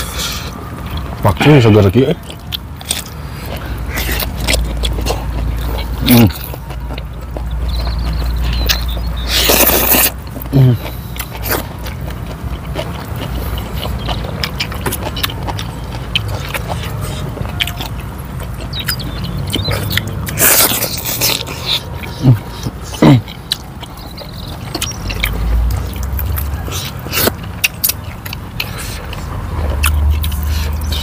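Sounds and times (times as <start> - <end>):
wet chewing: 0.0 - 31.0
lip smacks: 2.2 - 31.0.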